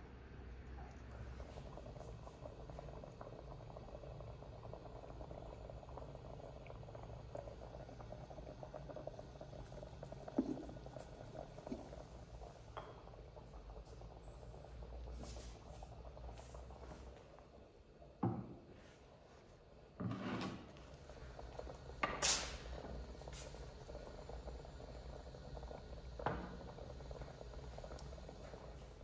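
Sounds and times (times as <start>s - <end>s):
food bubbling in pots: 0.0s - 29.0s.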